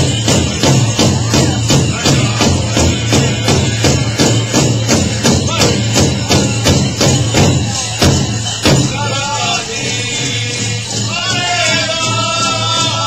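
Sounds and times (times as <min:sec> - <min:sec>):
drum beaten in steady beat: 0:00.0 - 0:13.0.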